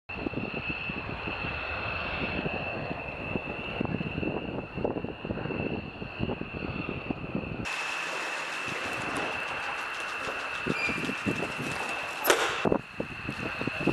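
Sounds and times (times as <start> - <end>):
jet engine running: 0.1 - 13.9.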